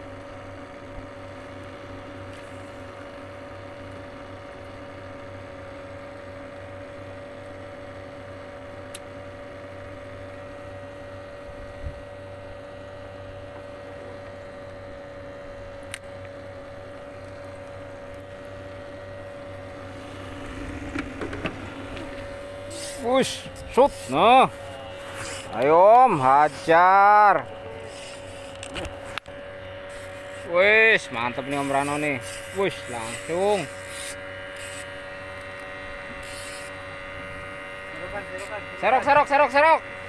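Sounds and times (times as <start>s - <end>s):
aerator pump humming: 0.0s - 40.0s.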